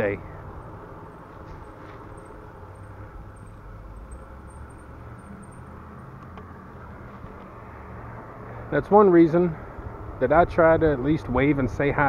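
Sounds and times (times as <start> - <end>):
bicycle tyres on road: 0.0 - 12.0
low wind rumble: 0.0 - 12.0.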